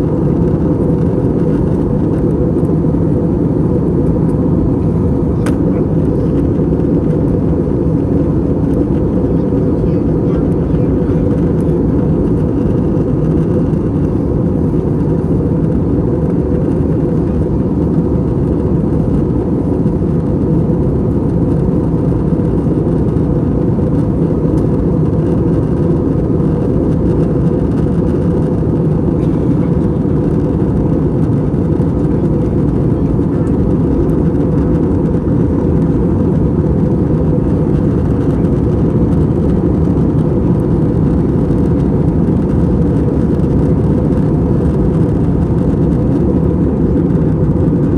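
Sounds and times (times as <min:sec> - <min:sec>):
airflow and engine drone: 0:00.0 - 0:47.9
faint steady whine: 0:00.0 - 0:47.9.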